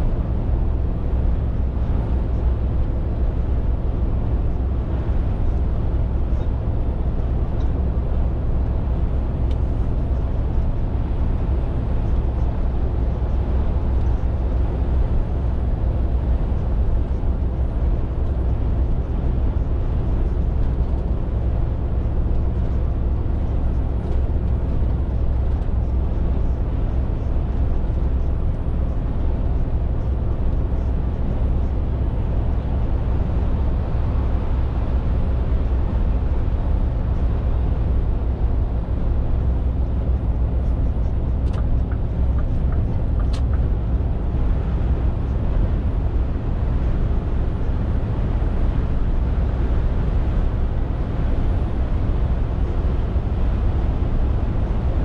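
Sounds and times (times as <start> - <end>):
lorry diesel engine running: 0.0 - 55.0
road noise: 0.0 - 55.0.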